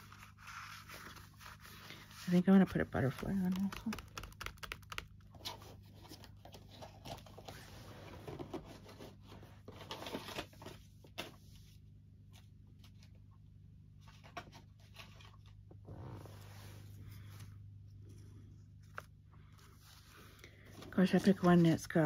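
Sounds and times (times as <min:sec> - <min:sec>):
paper rustling and crinkling: 0:00.0 - 0:13.3, 0:14.0 - 0:17.5, 0:18.8 - 0:22.0
low steady hum: 0:00.0 - 0:22.0.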